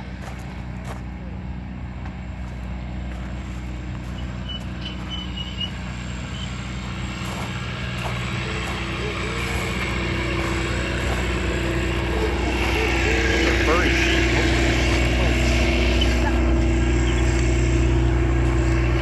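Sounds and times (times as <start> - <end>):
train engine humming: 0.0 - 19.0.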